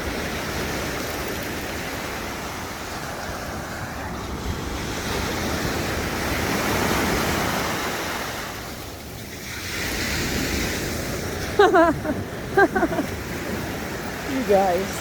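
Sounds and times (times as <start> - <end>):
ocean surf washing in: 1.9 - 15.0.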